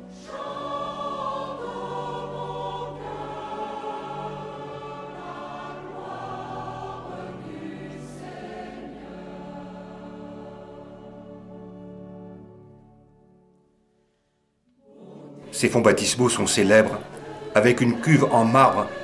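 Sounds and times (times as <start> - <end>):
choir singing sustained chords: 0.0 - 19.0.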